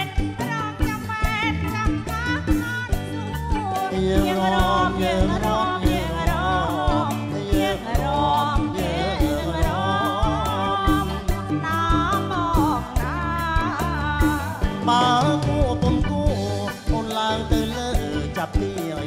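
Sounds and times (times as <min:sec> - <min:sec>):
band playing dance beat: 0:00.0 - 0:19.0
man and woman singing duet: 0:00.0 - 0:19.0.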